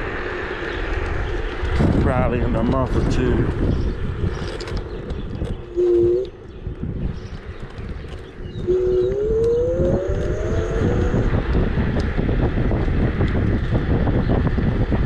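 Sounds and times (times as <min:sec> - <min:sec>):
electric scooter motor whine: 0:00.0 - 0:15.0
wheels rolling noise: 0:00.0 - 0:15.0
wind buffeting microphone: 0:00.0 - 0:15.0.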